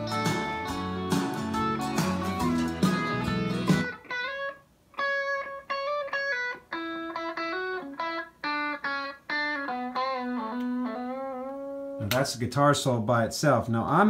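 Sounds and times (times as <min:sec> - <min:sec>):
lead guitar sustained notes: 0:00.0 - 0:12.2.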